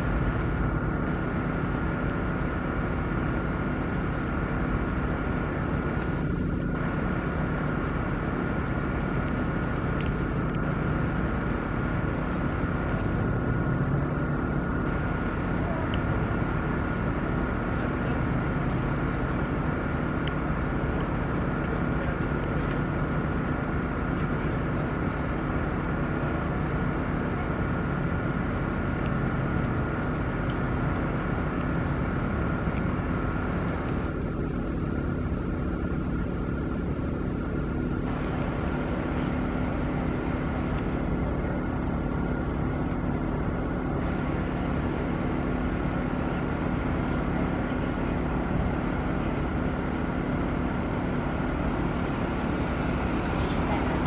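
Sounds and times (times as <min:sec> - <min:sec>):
mechanical drone with whine: 0:00.0 - 0:54.0.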